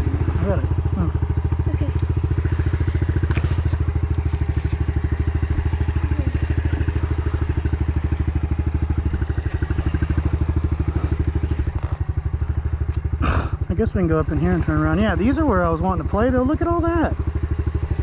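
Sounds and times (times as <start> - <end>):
single-cylinder engine idling: 0.0 - 18.0.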